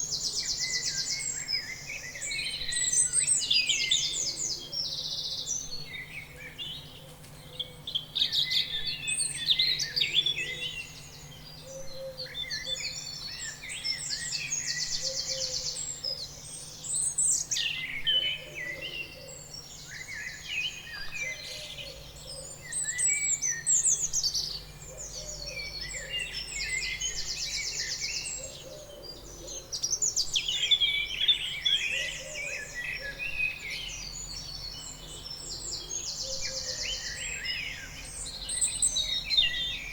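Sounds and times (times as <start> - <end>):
songbirds singing and trilling: 0.0 - 39.9.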